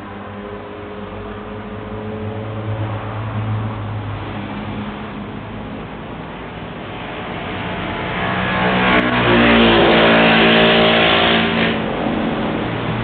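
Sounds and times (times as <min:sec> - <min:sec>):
engine speeding up: 0:00.0 - 0:13.0.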